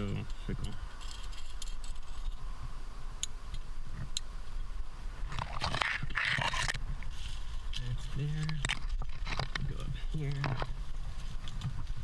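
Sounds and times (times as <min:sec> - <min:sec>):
rough scraping rustle: 0:00.0 - 0:12.0.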